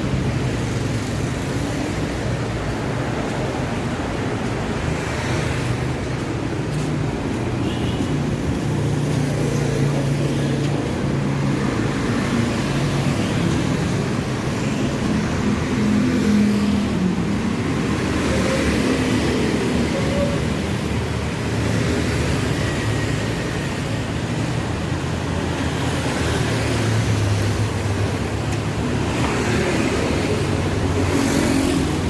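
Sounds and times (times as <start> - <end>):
road noise: 0.0 - 32.0
vehicles passing: 0.0 - 32.0.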